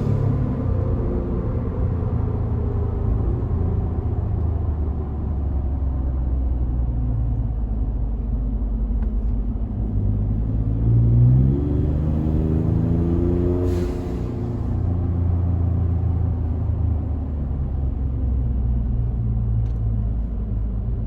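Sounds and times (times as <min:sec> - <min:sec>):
truck exhaust rumble: 0:00.0 - 0:21.0.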